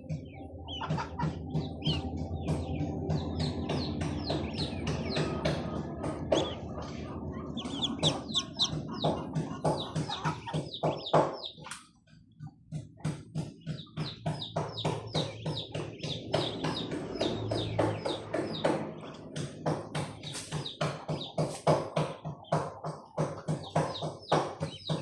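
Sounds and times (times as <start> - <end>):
chickens clucking: 0.0 - 25.0
small birds chirping: 0.0 - 25.0.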